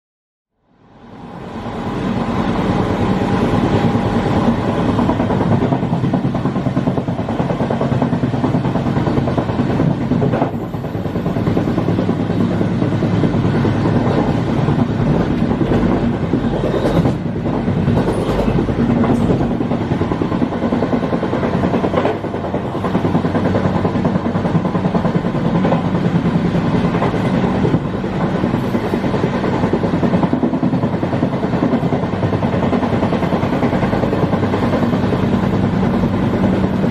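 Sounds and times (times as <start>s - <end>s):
train wheels rumbling on rails: 0.6s - 36.9s
wheels clacking over rail joints: 2.1s - 36.9s.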